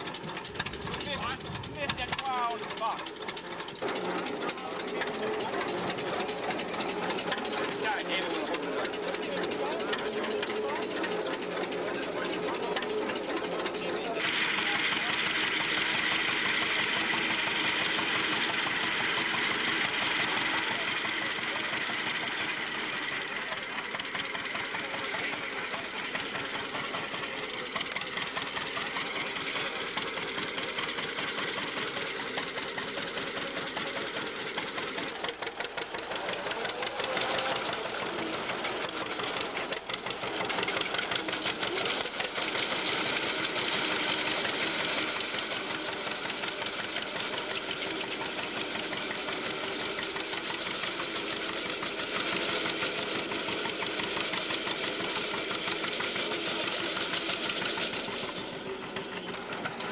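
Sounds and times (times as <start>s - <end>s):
binder reel and cutter clattering: 0.0s - 59.9s
tractor engine running: 0.0s - 59.9s.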